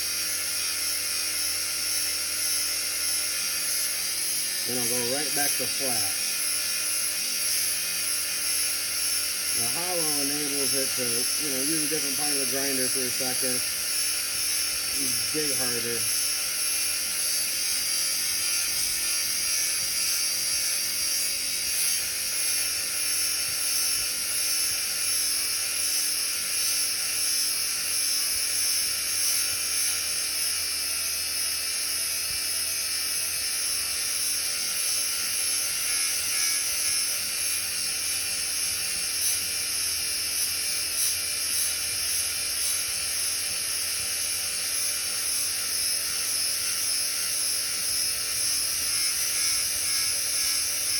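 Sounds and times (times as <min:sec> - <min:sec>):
grinder grinding steel: 0:00.0 - 0:50.9.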